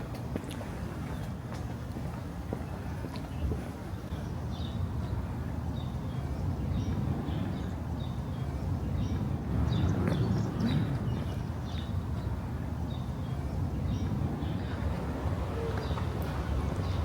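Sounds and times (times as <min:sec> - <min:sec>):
traffic rumble: 0:00.0 - 0:17.0
small birds chirping: 0:02.5 - 0:15.0, 0:15.6 - 0:17.0.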